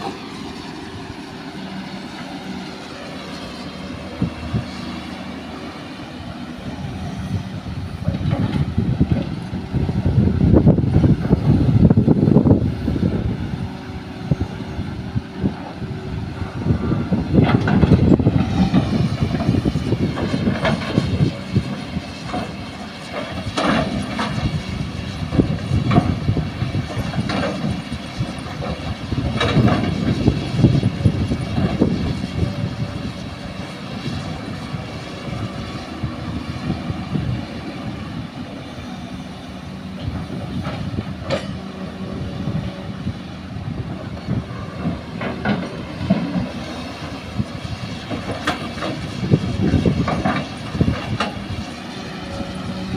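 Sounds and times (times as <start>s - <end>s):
excavator diesel engine revving: 0.0s - 52.9s.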